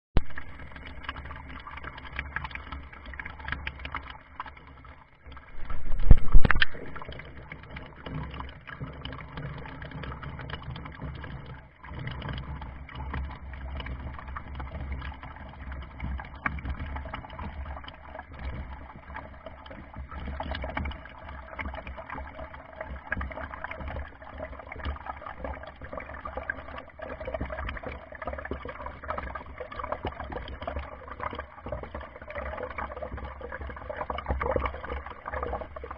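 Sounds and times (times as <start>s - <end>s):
water sloshing and gurgling: 0.2s - 35.9s.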